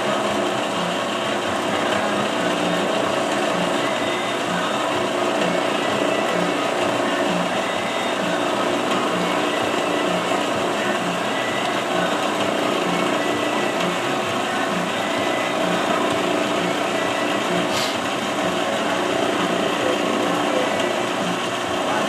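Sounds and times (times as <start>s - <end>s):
bandsaw cutting metal: 2.5s - 22.0s.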